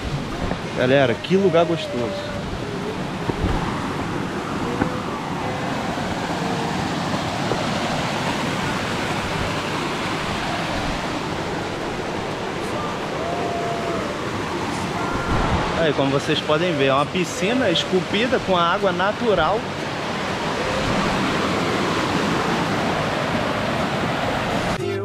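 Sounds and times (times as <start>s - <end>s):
small waterfall rushing: 0.0s - 24.8s.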